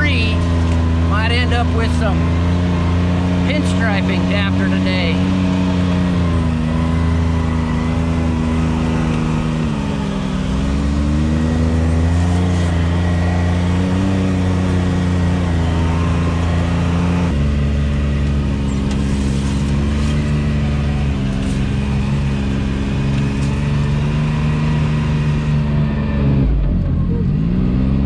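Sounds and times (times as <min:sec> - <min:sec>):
engine revving at low speed: 0:00.0 - 0:28.0
steady engine drone: 0:00.0 - 0:28.0.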